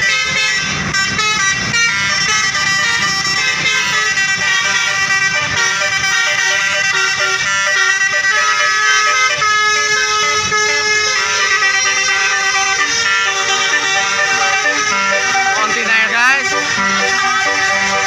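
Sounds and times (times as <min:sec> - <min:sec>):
bus horns playing a tune: 0:00.0 - 0:18.0.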